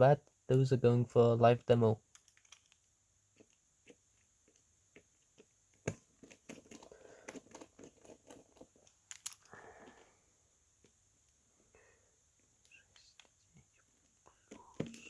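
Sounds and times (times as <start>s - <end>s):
crinkling rustle and small clicks: 2.0s - 11.4s, 12.3s - 15.0s.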